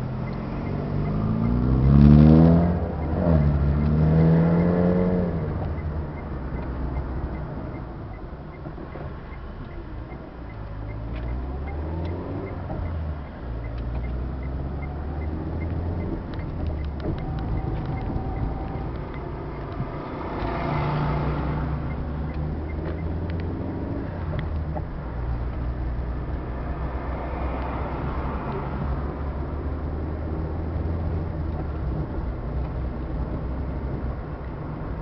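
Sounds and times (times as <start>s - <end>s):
road noise: 0.0s - 35.0s
vehicle engine drone: 0.0s - 35.0s.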